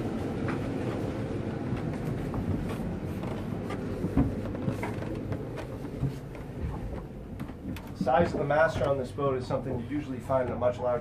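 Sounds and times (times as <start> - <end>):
footsteps on stairs: 0.2 - 9.1.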